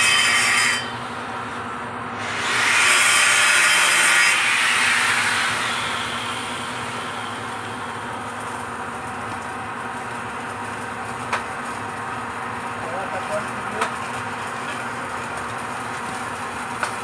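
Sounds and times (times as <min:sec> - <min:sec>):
welding hiss and hum: 0:00.0 - 0:17.0.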